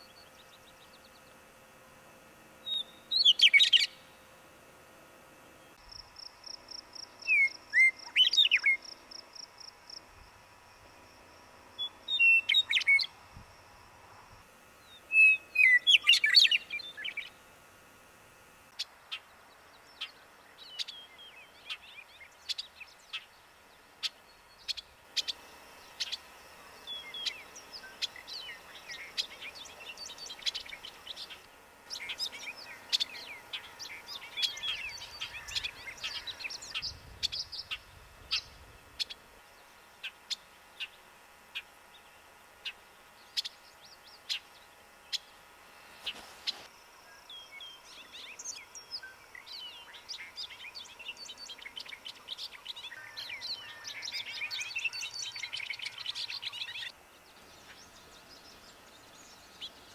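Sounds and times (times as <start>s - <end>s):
birds chirping and twittering: 0.0s - 1.7s, 2.5s - 4.2s, 5.4s - 17.5s, 18.7s - 59.9s.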